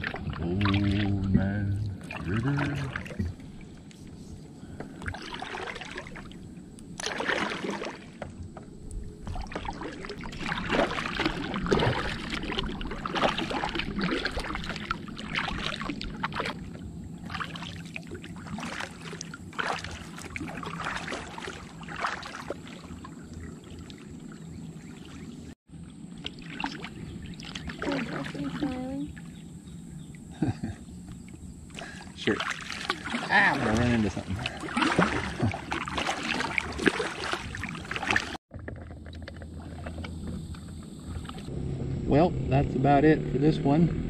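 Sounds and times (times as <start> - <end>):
kayak paddle splashing in water: 0.0 - 1.4, 2.0 - 3.8, 4.8 - 30.4, 31.2 - 41.5.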